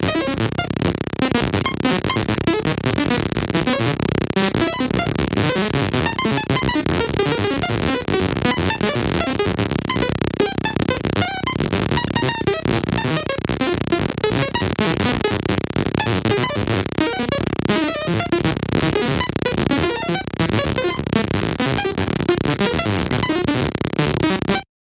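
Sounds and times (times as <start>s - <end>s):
rapid electronic blips and clicks: 0.0s - 24.7s.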